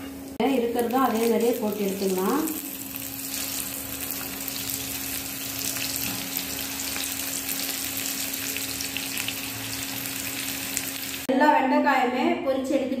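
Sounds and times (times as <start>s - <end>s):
food deep-frying in oil: 0.5s - 11.3s.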